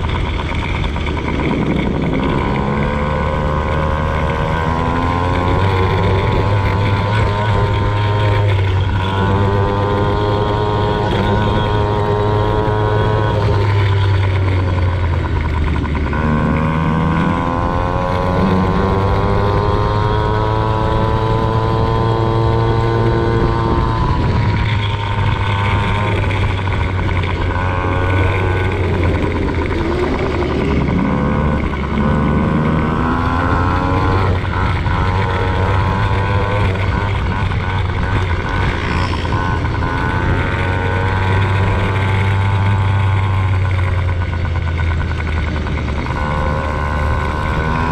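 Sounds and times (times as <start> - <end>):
motocross bike engine revving: 0.0 - 47.9
steady low drone: 0.0 - 47.9.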